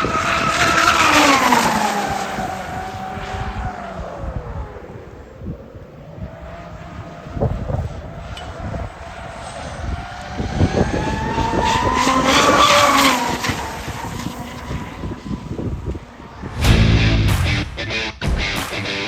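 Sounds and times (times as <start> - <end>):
model speedboat engine whine: 0.0 - 16.5.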